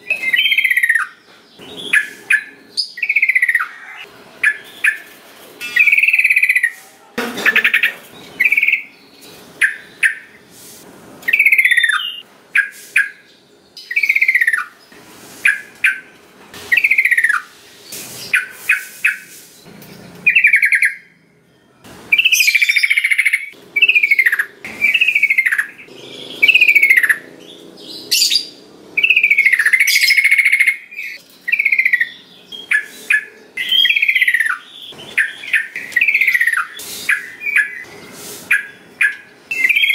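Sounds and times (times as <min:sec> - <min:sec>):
bird singing chirps and whistles: 0:00.0 - 0:06.8, 0:08.2 - 0:10.4, 0:11.2 - 0:14.8, 0:16.7 - 0:17.5, 0:20.2 - 0:39.9.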